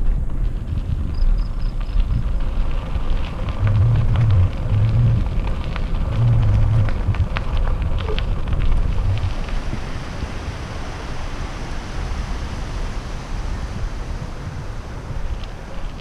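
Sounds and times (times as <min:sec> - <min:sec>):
bicycle tyres rolling over rough trail: 0:00.0 - 0:16.0
wind rumble on microphone: 0:00.0 - 0:16.0.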